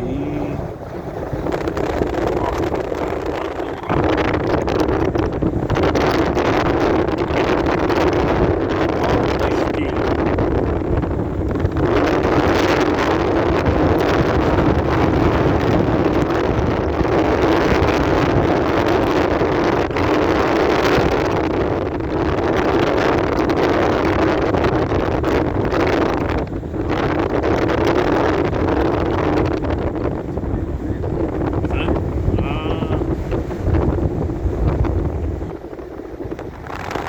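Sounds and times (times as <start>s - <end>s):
strong wind on microphone: 0.0s - 37.0s.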